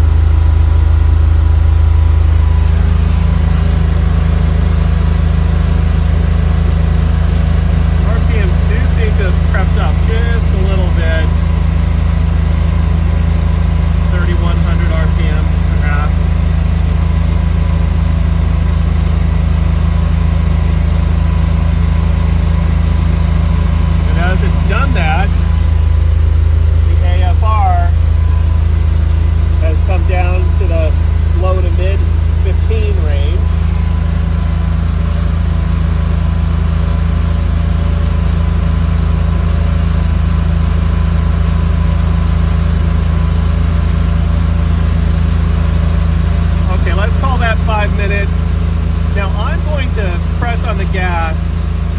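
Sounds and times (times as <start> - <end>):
car engine fast idle: 0.0 - 51.9.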